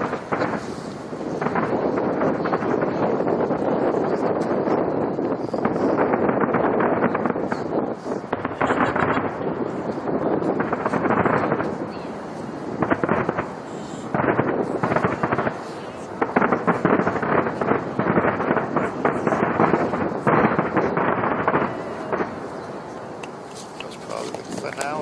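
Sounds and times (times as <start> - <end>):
fireworks crackling bursts: 0.0 - 25.0.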